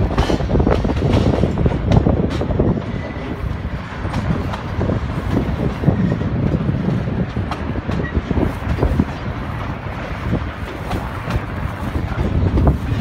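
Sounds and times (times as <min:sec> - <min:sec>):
train cars clanking: 0:00.0 - 0:13.0
train cars rumbling on rails: 0:00.0 - 0:13.0.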